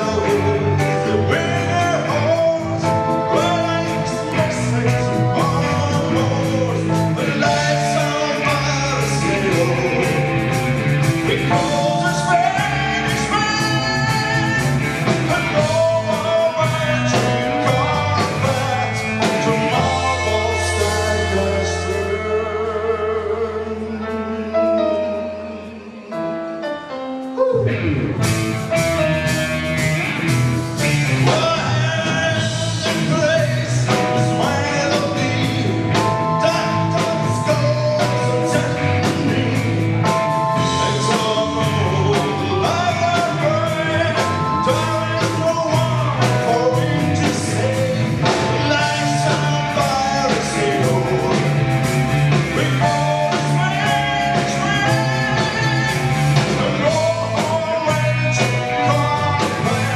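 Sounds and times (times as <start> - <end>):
drum kit beat: 0.0 - 22.8, 27.2 - 59.9
bass: 0.0 - 59.9
electric guitars: 0.0 - 59.9
keyboard: 0.0 - 59.9
lead singer: 0.0 - 59.9.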